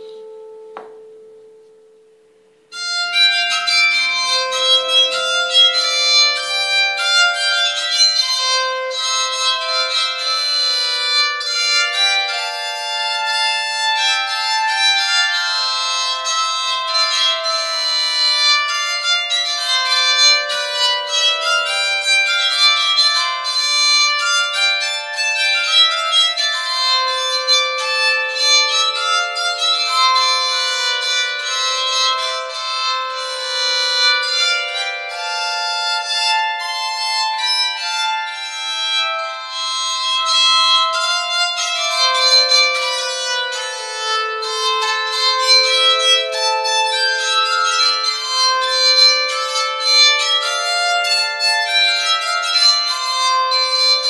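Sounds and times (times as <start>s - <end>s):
bowed psaltery melody: 0.0s - 54.0s.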